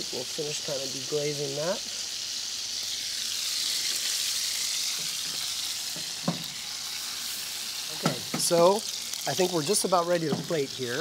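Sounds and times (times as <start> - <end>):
food sizzling in pans: 0.0 - 11.0.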